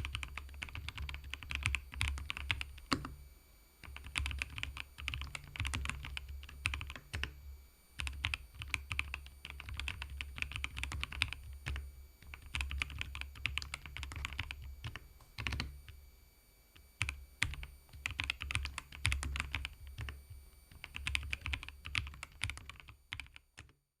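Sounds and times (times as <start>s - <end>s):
mechanical keyboard typing: 0.0s - 3.2s, 3.8s - 7.4s, 8.0s - 16.0s, 17.0s - 23.8s.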